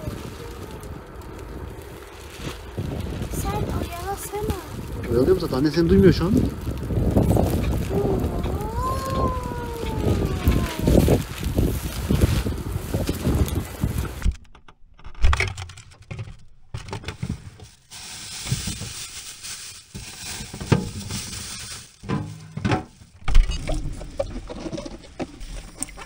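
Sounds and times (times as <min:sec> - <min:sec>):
plastic bag rustling: 0:00.0 - 0:14.3, 0:16.2 - 0:26.0.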